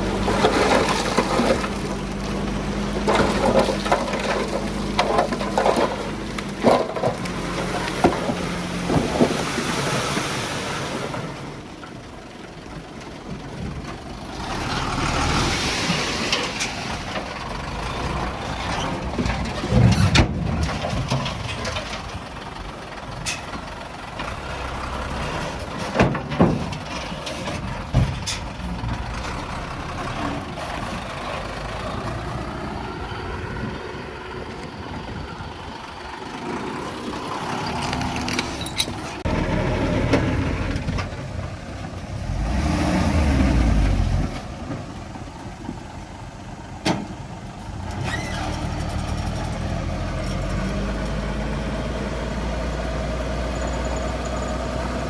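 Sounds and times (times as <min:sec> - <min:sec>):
diesel engines working: 0:00.0 - 0:55.0.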